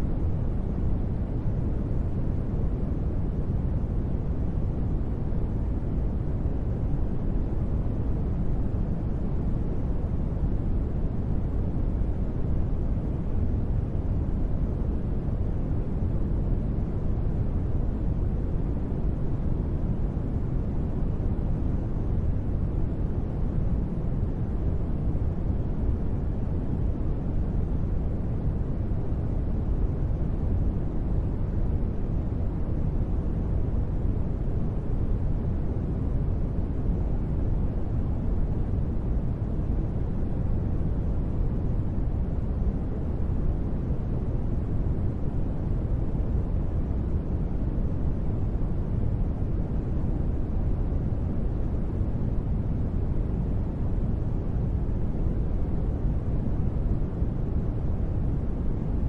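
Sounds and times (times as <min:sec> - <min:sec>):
deep hiss-rumble noise: 0:00.0 - 0:59.0.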